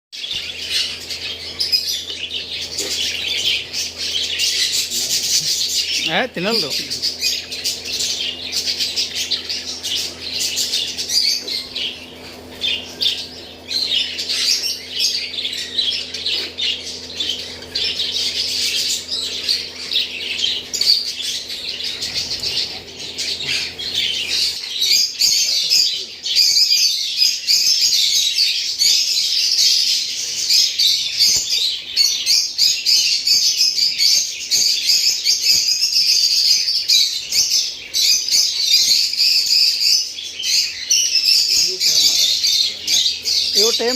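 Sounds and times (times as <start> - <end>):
parrots chirping and squawking: 0.2 - 43.9.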